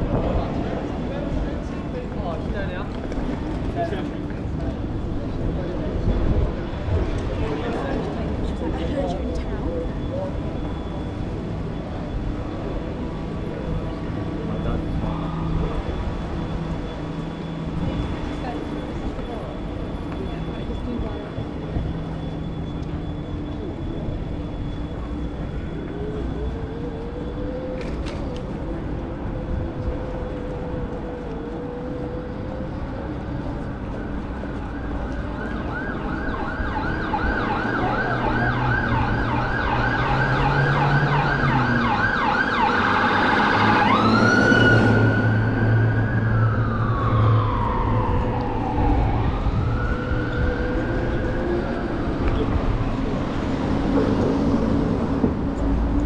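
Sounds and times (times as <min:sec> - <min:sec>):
city street traffic: 0:00.0 - 0:56.0
emergency vehicle siren: 0:00.0 - 0:56.0.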